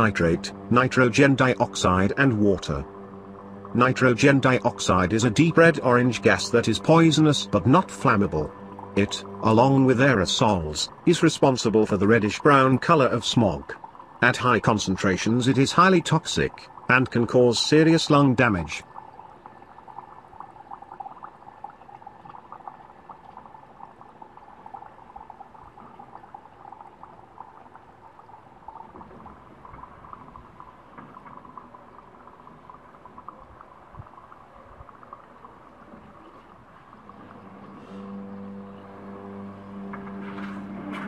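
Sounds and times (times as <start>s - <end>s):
fizzing crackle of bubbles: 0.0s - 41.0s.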